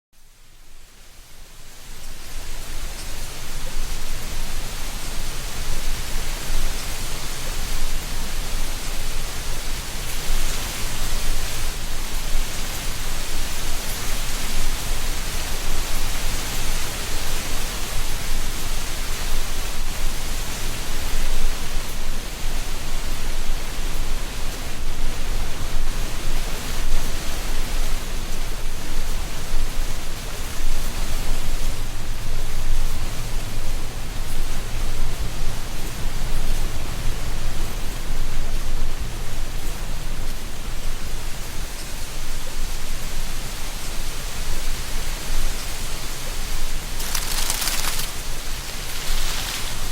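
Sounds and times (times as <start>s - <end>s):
wind rustling dry leaves: 0.2s - 49.9s.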